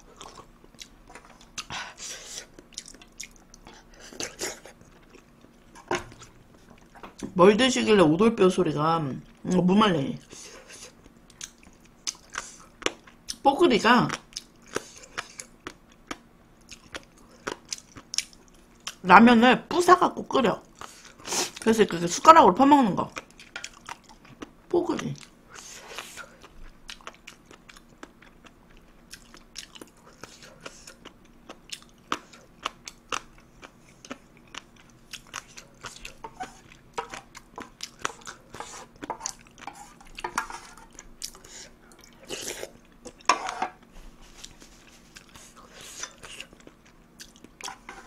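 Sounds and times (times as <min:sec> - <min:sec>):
close chewing and crunching: 0:00.0 - 0:07.2, 0:10.2 - 0:19.0, 0:23.0 - 0:48.0.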